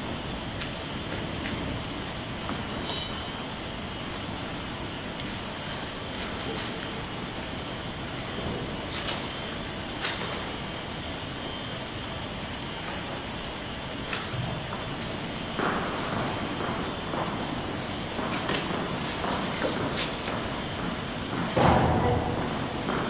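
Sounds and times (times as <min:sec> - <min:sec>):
rushing room noise: 0:00.0 - 0:23.0.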